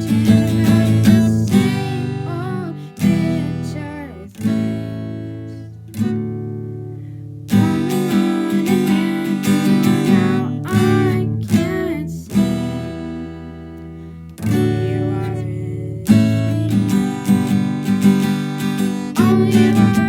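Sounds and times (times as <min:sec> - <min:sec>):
acoustic guitar strummed chords: 0:00.0 - 0:20.0.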